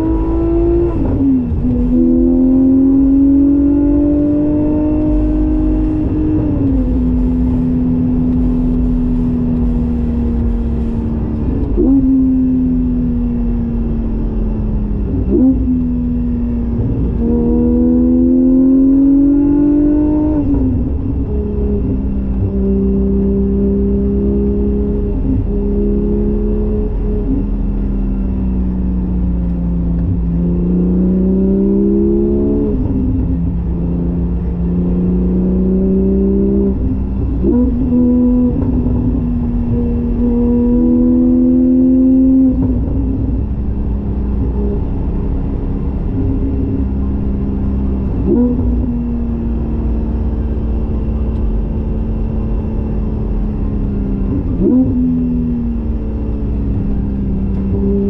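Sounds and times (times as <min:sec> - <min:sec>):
sports car engine accelerating: 0:00.0 - 0:58.0.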